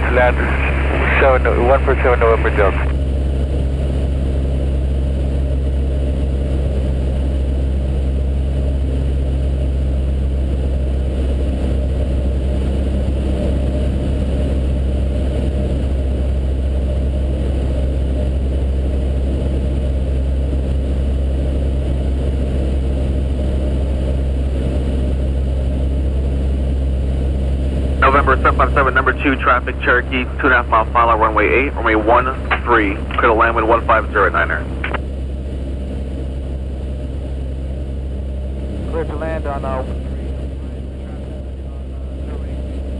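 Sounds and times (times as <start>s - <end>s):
small plane engine droning: 0.0s - 42.9s.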